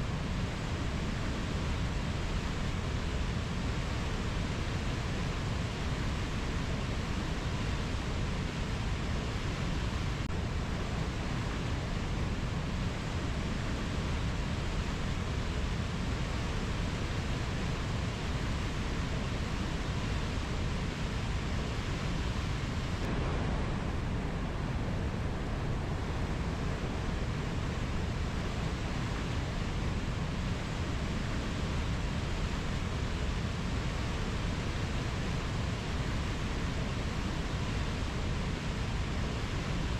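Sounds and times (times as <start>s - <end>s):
rainforest rushing noise: 0.0s - 39.9s.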